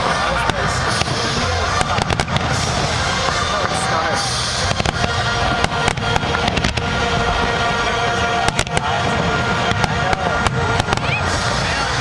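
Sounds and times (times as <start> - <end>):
firework bangs and cracks: 0.0 - 12.0
music playing: 0.0 - 12.0
steady rumble: 0.0 - 12.0.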